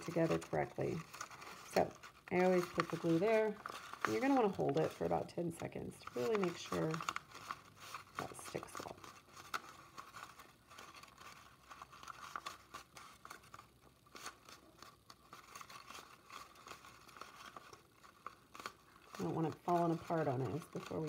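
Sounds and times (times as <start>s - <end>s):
paper rustling: 0.0s - 21.0s.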